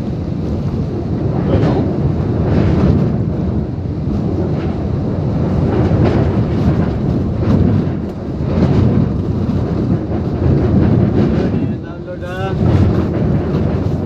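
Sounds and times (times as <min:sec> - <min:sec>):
heavy rain: 0:00.0 - 0:14.0
strong wind: 0:00.0 - 0:14.0.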